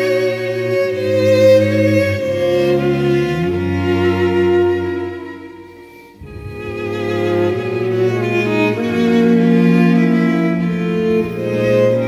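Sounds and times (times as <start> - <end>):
bowed strings playing slow notes: 0.0 - 12.0.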